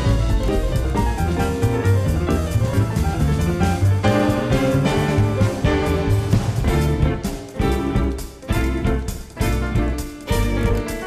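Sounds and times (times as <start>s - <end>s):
bass line: 0.0s - 11.0s
drum kit: 0.0s - 11.0s
piano: 0.0s - 11.0s.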